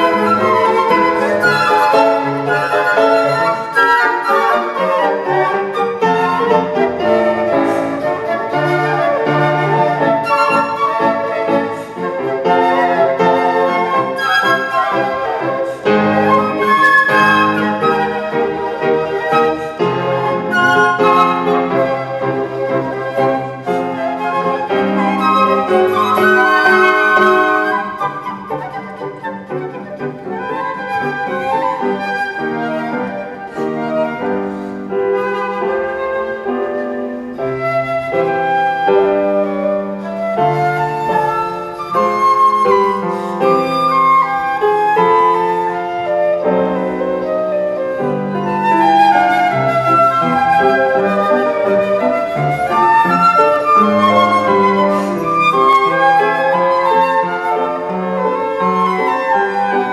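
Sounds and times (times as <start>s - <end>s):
flute melody: 0.0s - 59.9s
piano accompaniment: 0.0s - 59.9s.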